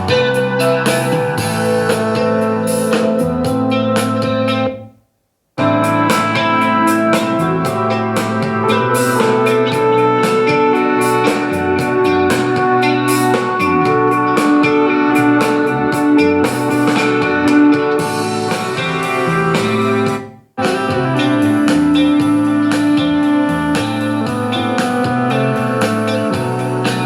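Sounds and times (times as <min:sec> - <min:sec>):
guitar and drums music: 0:00.0 - 0:04.9, 0:05.6 - 0:27.0.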